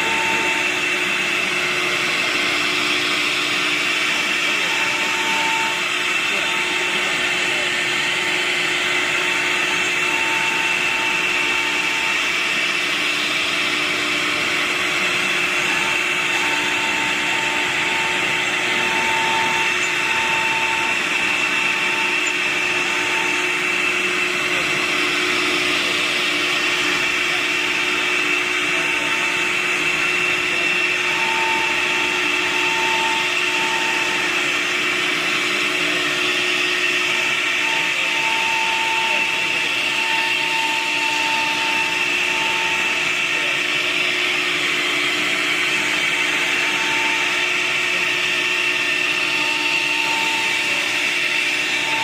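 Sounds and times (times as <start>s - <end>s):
cnc router running: 0.0s - 52.0s
high whine: 0.0s - 52.0s
mid-pitched whine: 0.0s - 52.0s.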